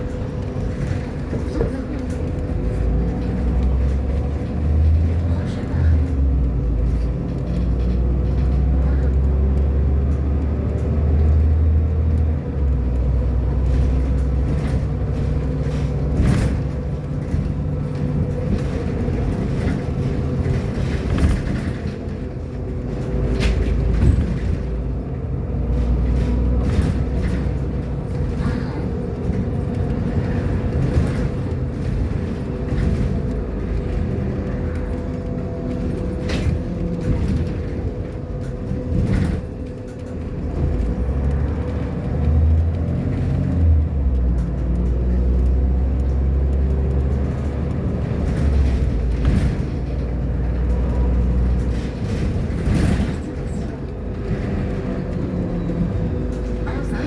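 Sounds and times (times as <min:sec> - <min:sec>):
bus engine rumble: 0:00.0 - 0:57.0
rattles and knocks: 0:00.0 - 0:57.0.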